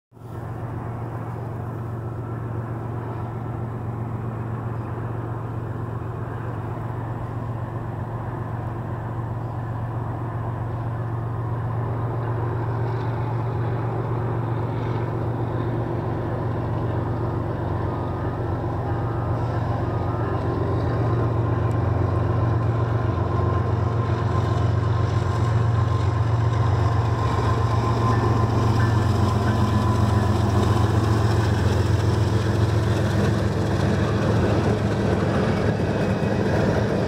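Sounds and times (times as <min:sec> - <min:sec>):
diesel locomotive engine drone: 0:00.1 - 0:37.0.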